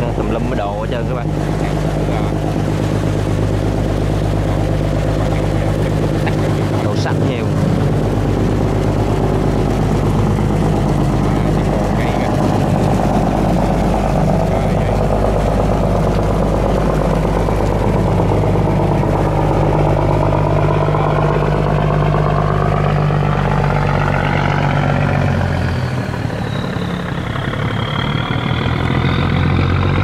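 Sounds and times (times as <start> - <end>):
barge diesel engine running: 0.0 - 30.0
water washing along hull: 0.0 - 30.0.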